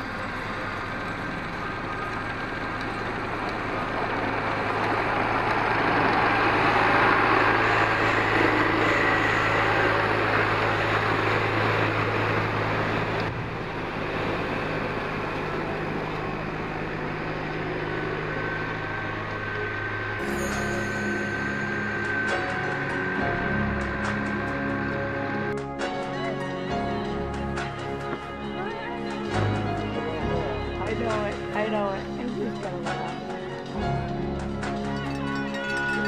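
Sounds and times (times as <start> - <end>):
tracks churning snow: 0.0 - 34.0
snow groomer engine humming: 0.0 - 36.0.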